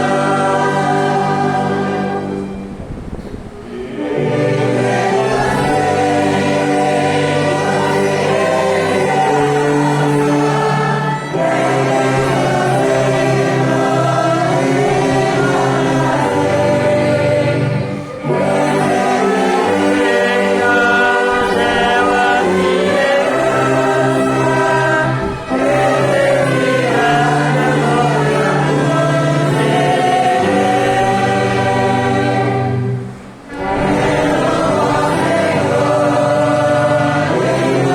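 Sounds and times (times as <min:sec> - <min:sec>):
congregation and choir singing hymn: 0:00.0 - 0:37.9
orchestra playing: 0:03.6 - 0:37.9.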